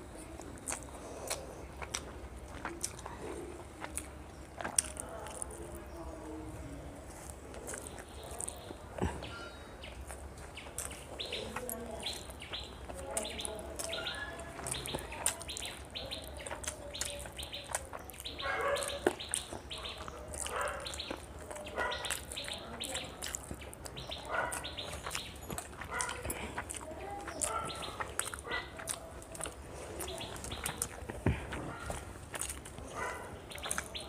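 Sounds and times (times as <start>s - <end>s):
chewing and wet eating: 0.0s - 34.0s
small birds chirping: 0.0s - 34.0s.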